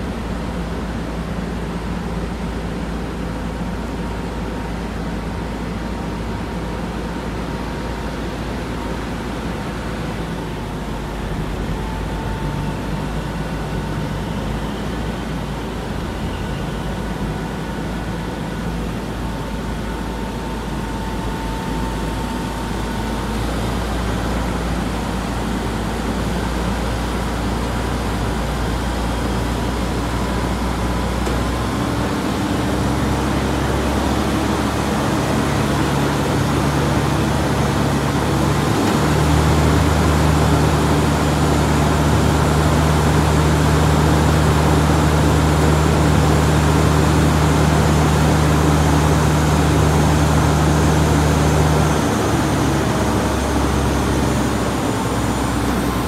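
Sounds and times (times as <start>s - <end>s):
crane engine humming: 0.0s - 56.0s.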